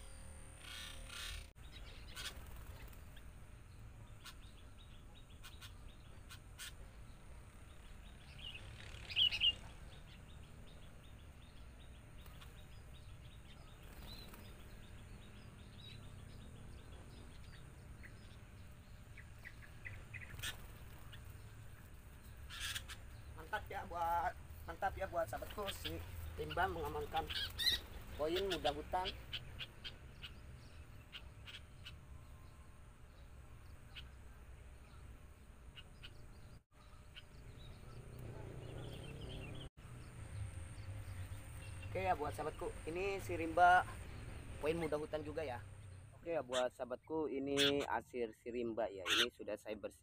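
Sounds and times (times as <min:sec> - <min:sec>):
birds chirping: 0:00.0 - 0:50.0
outdoor background noise: 0:00.0 - 0:50.0.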